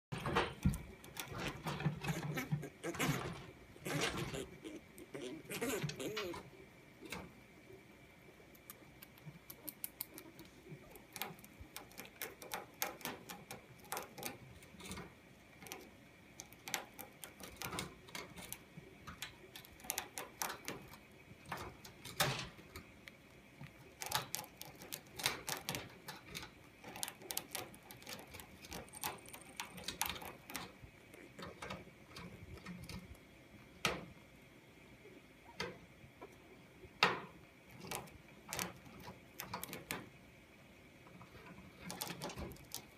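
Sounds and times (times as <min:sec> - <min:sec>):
chinchillas clicking and tapping: 0:00.1 - 0:07.3, 0:08.5 - 0:34.1, 0:37.0 - 0:40.1, 0:41.0 - 0:42.9.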